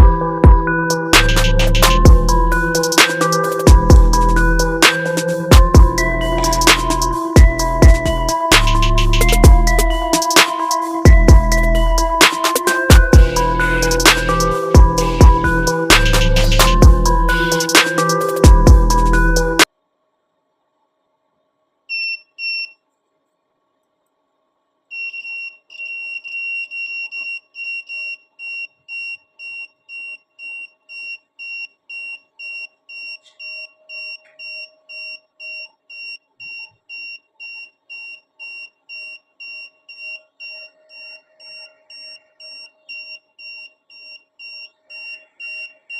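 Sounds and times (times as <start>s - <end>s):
electronic buzzer beeping: 1.0s - 18.3s, 25.0s - 45.9s.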